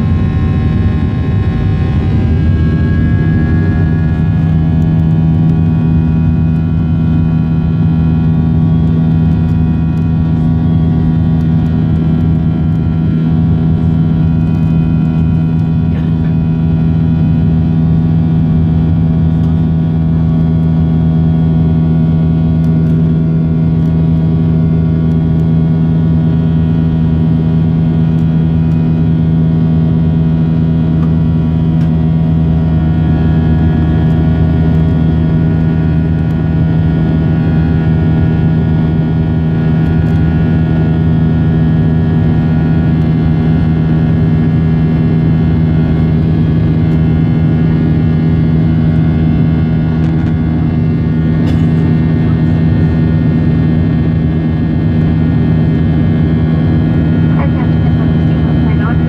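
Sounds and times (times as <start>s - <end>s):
airplane cabin engine drone: 0.0s - 59.0s
steady whining tones: 0.0s - 59.0s.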